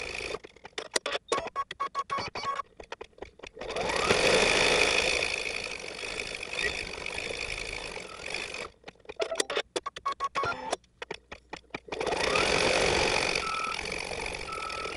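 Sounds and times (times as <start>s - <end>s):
embroidery machine stitching: 0.0s - 1.5s, 2.6s - 14.9s.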